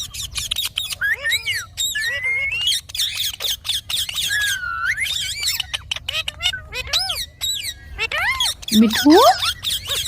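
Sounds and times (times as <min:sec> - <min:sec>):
parrot chattering and whistling: 0:00.0 - 0:10.0.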